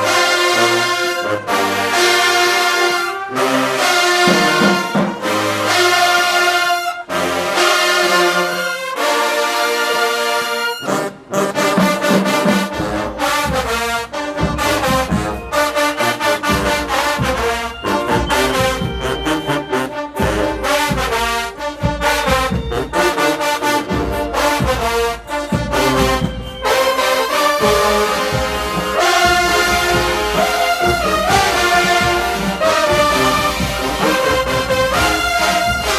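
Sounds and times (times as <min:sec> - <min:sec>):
brass chords: 0:00.0 - 0:35.9
drumline: 0:00.0 - 0:35.9.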